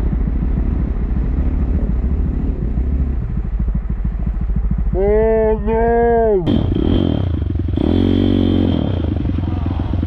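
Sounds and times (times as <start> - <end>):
motorbike engine idling: 0.0 - 10.0.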